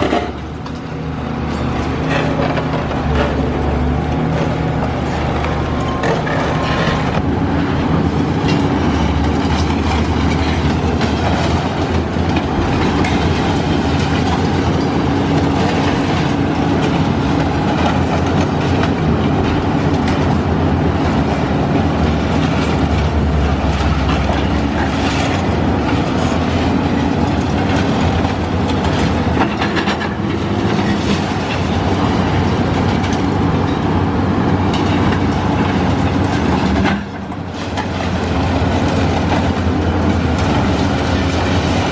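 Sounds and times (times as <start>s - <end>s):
concrete and steel debris crunching: 0.0s - 33.9s, 34.6s - 41.9s
diesel engine drone: 0.0s - 41.9s.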